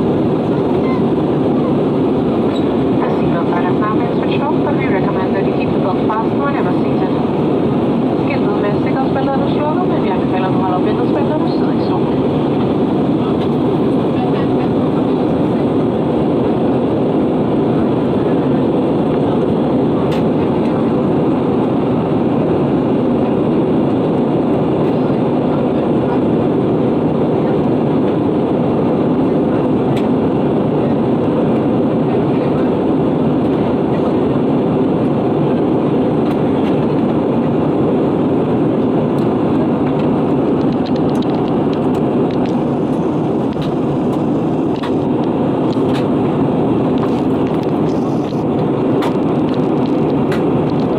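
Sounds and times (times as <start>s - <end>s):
aircraft cabin engine roar: 0.0s - 50.9s.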